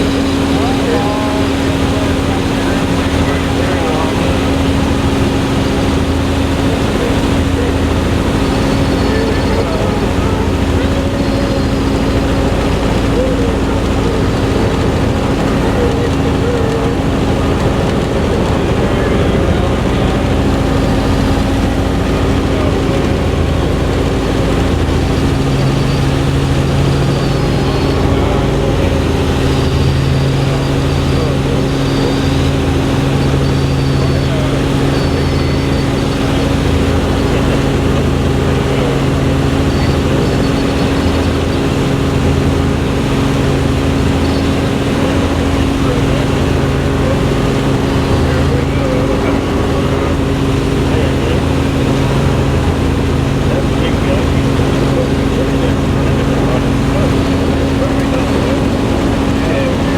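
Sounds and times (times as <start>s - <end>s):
constant hum: 0.0s - 59.9s
helicopter engine and rotor: 0.0s - 59.9s.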